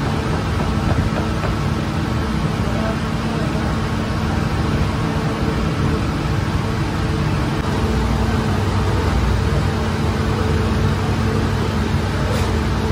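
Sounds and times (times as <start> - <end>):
bakery machinery drone: 0.0 - 12.9.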